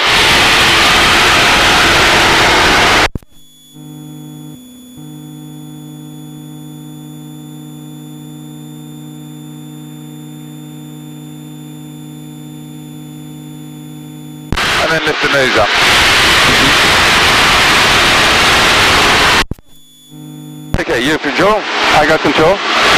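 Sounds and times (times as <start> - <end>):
aircraft engine and airflow: 0.0 - 3.1, 4.2 - 19.4, 20.8 - 22.9
electrical hum: 0.0 - 22.9.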